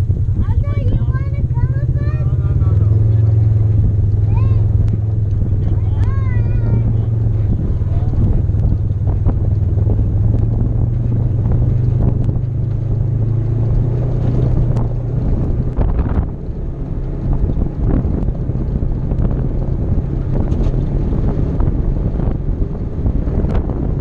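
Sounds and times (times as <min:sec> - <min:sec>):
off-road vehicle engine running: 0:00.0 - 0:24.0
wind on microphone: 0:00.0 - 0:24.0.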